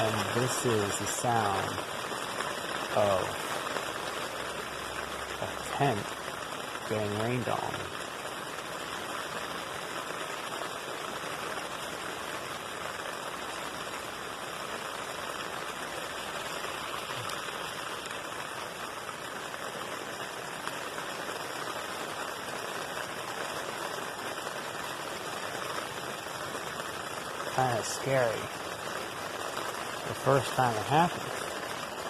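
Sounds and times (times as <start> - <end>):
rain on a tent: 0.0 - 32.0.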